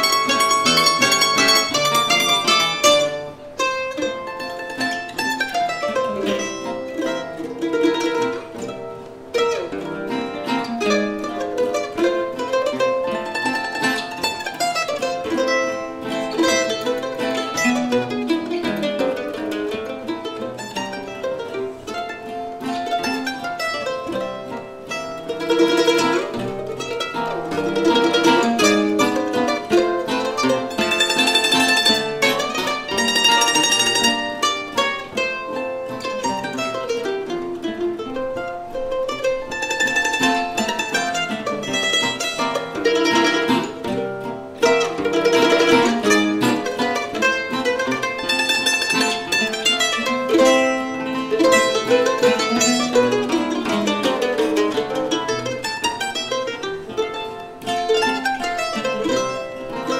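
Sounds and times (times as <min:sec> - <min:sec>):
mandolin melody: 0:00.0 - 0:59.9
strummed acoustic guitars: 0:00.0 - 0:59.9.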